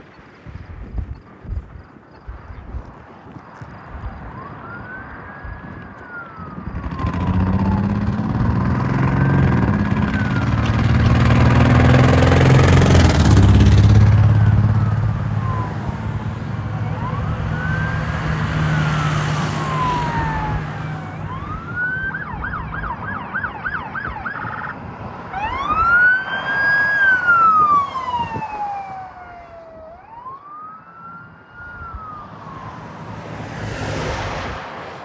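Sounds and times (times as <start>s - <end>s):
steady engine hum: 3.8s - 33.6s
emergency vehicle siren: 4.0s - 34.8s.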